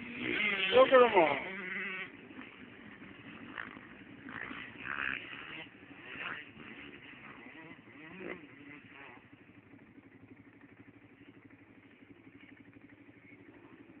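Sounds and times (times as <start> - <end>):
quad bike engine idling: 0.0 - 14.0.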